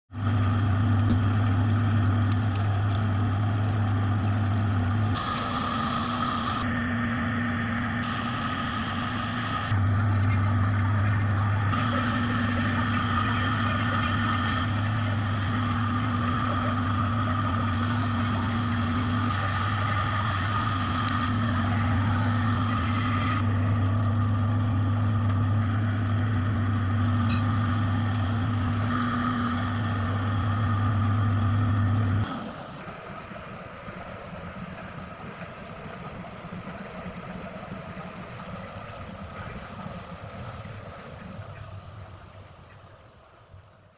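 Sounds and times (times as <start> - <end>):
potter's wheel motor humming: 0.1 - 41.8.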